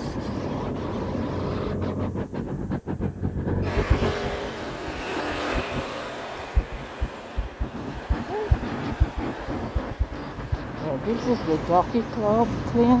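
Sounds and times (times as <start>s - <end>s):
car passing: 0.4s - 12.6s.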